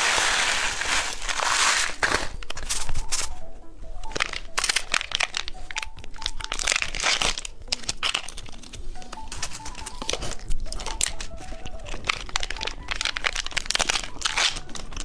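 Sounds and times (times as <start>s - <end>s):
plastic packaging crinkling: 0.0s - 3.4s, 4.0s - 15.0s
light background music: 0.0s - 15.0s.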